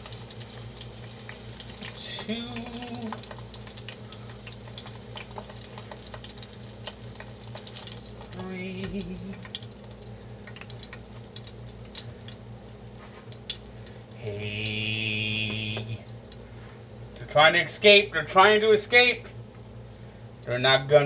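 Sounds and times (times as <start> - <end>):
hot oil crackling and popping: 0.0 - 21.0
steady low hum: 0.0 - 21.0.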